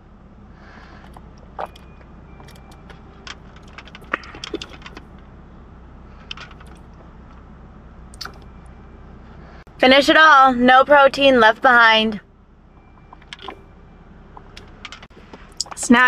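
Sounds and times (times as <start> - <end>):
car cabin hum: 0.0 - 16.0.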